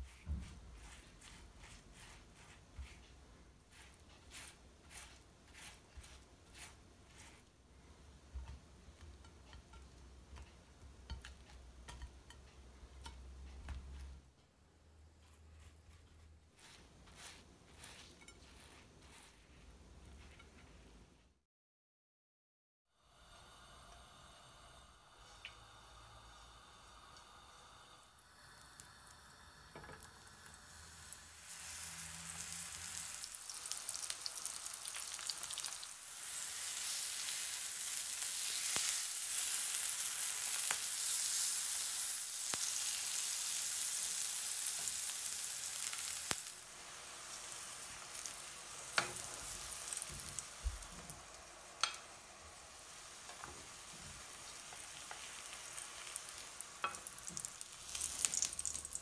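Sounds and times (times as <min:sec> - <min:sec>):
aubergine sizzling in oil: 0:00.0 - 0:13.4, 0:16.6 - 0:20.6, 0:23.0 - 0:59.0.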